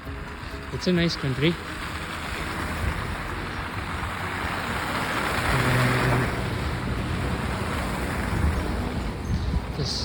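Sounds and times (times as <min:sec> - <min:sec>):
car passing on slushy road: 0:00.0 - 0:10.0.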